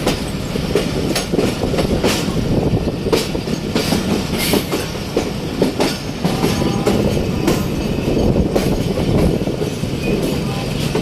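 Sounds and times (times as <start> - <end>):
train coach rumbling: 0.0 - 11.0
wheels clacking over rail joints: 0.0 - 11.0.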